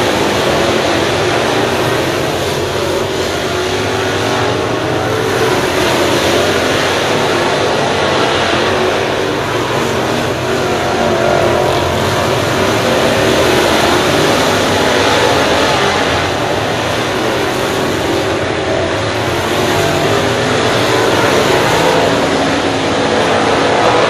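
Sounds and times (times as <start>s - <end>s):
race car engines at full throttle: 0.0s - 24.0s.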